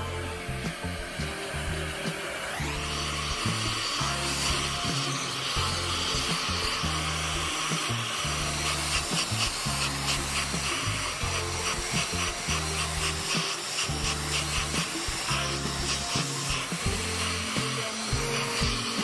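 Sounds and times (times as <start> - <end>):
background music with bass: 0.0 - 19.0
hair dryer blowing: 0.0 - 19.0
fast ticking beat: 2.8 - 19.0.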